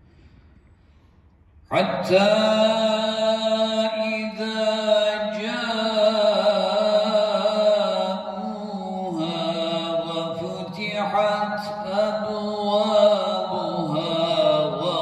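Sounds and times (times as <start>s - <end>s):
man reciting melodically: 1.7s - 15.0s.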